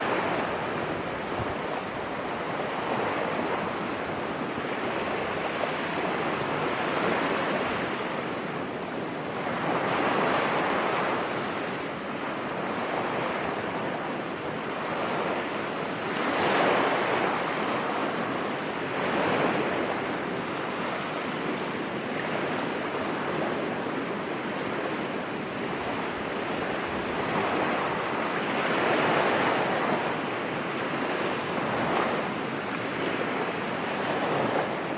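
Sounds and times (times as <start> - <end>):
sea waves breaking on beach: 0.0 - 34.9.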